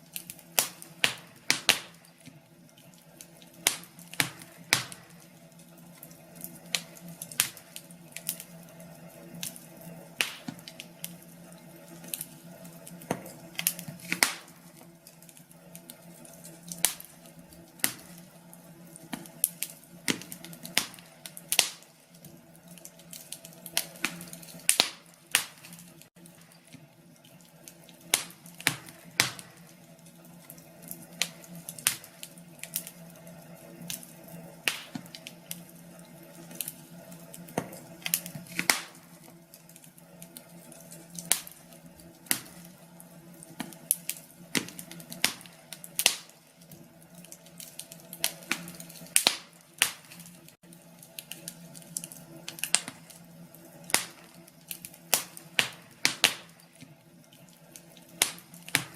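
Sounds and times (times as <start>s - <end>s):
fire pops and snaps: 0.0s - 58.9s
wood fire crackling: 0.0s - 58.9s.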